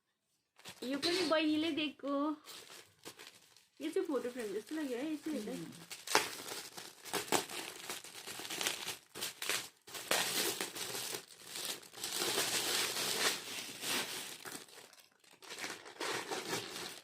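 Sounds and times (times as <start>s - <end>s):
wrapping paper crinkling and tearing: 0.6s - 17.0s.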